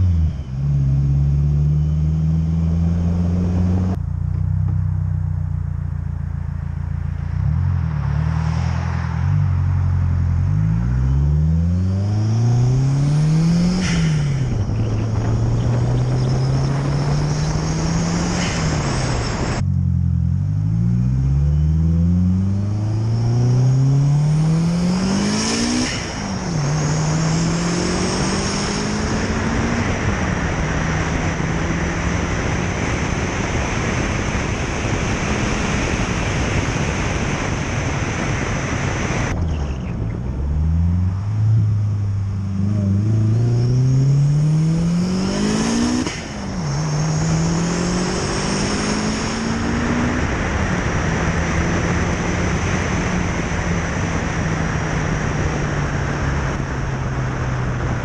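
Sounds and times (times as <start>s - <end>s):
turbocharged car engine accelerating: 0.0s - 5.5s, 6.4s - 58.0s.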